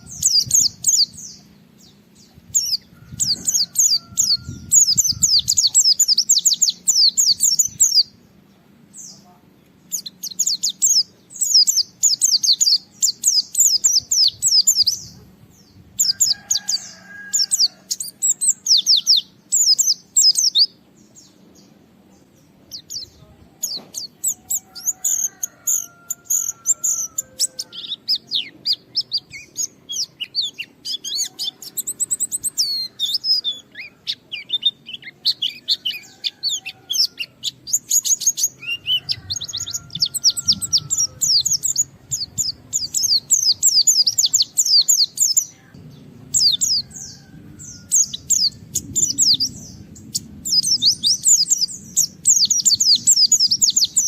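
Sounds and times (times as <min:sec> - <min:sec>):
bird singing rapid chirps: 0:00.0 - 0:08.3, 0:09.8 - 0:21.7, 0:22.4 - 0:54.0.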